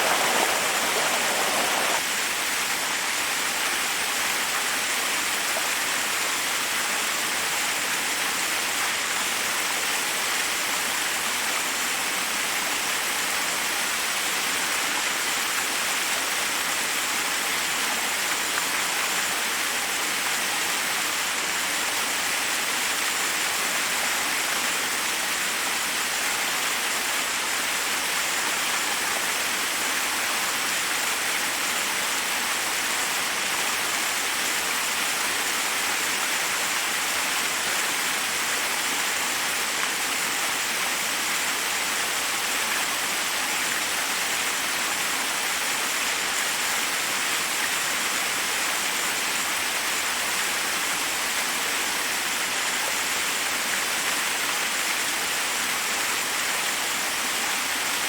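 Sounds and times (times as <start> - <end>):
waterfall cascading over rocks: 0.0 - 58.0.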